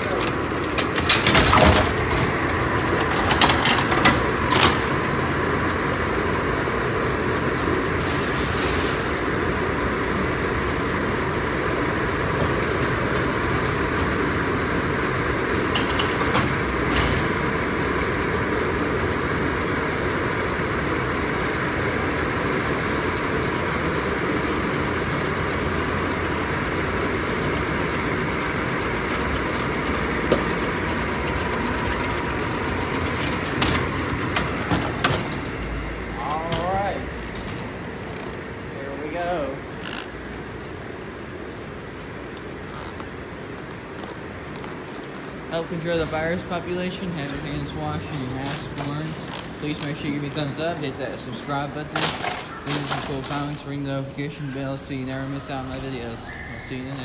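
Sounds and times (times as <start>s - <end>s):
escalator mechanical rumble and rattle: 0.0s - 57.0s.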